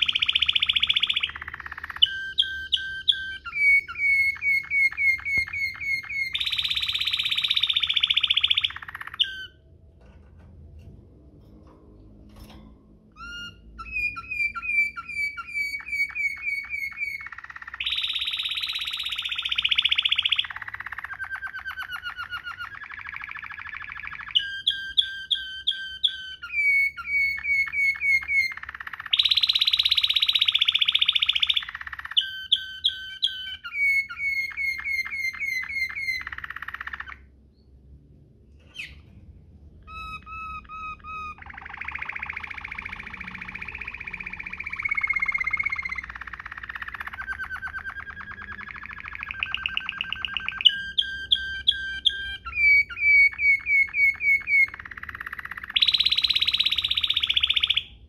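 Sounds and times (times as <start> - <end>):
canary singing rolling song: 0.0 - 58.0.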